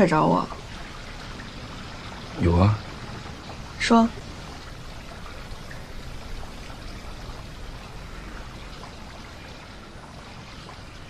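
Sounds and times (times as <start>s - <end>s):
steady rushing noise: 0.6s - 11.0s.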